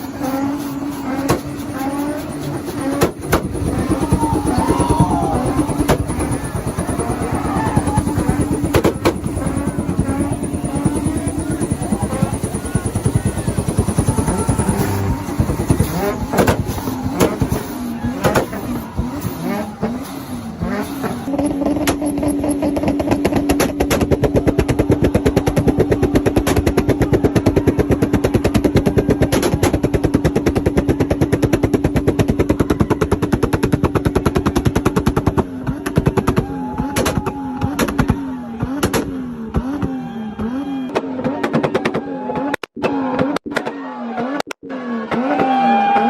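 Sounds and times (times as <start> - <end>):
exhaust popping: 0.0 - 43.6
car engine revving: 0.0 - 46.0.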